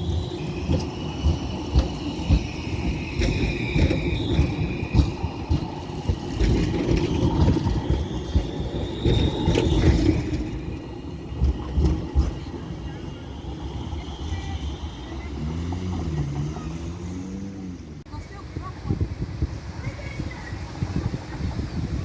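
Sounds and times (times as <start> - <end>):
wheels clacking over rail joints: 0.0 - 18.1
tram rumbling on rails: 0.0 - 22.0.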